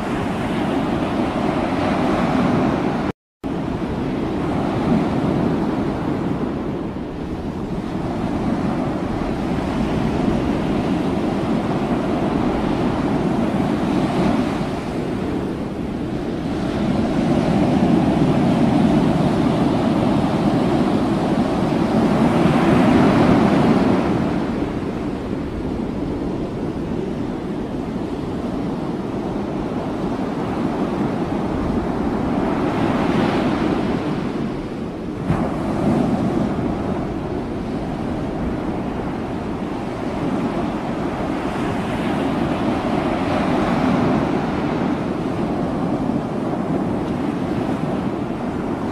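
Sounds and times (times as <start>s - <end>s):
sea: 0.0s - 48.9s
wind: 0.0s - 48.9s
wind buffeting microphone: 0.0s - 48.9s.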